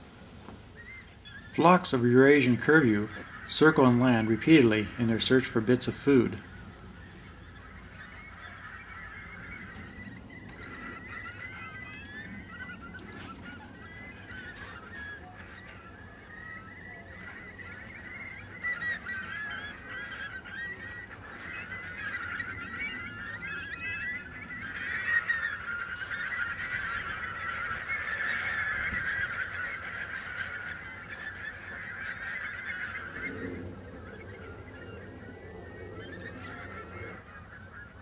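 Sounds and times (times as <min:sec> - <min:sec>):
flock of birds calling: 0:00.0 - 0:38.0.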